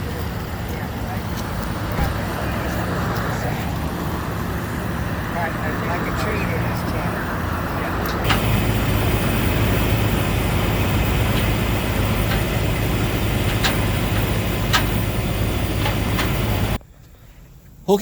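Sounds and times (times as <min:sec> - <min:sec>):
low engine hum: 0:00.0 - 0:17.7
highway traffic: 0:00.0 - 0:18.0.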